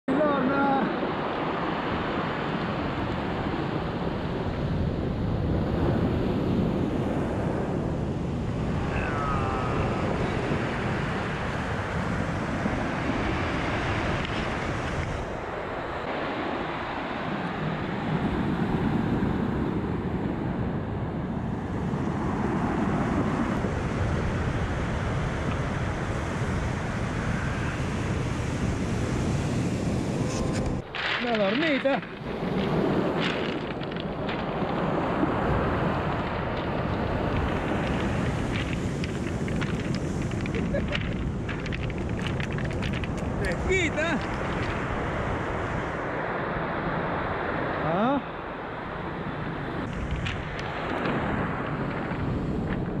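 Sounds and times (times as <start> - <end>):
surf on pebble beach: 0.1 - 53.0
wind buffeting microphone: 0.5 - 53.0.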